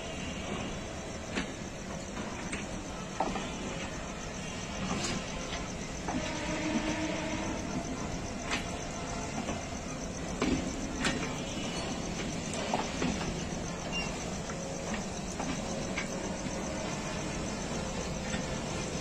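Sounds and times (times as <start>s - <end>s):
train coaches rumbling past: 0.0s - 19.0s
wheels clacking over rail joints: 0.4s - 19.0s.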